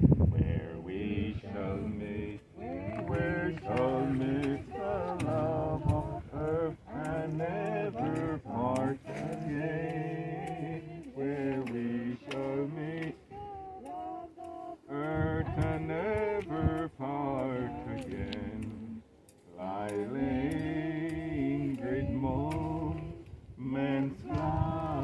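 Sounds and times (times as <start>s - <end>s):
voices singing a hymn: 0.3s - 25.0s.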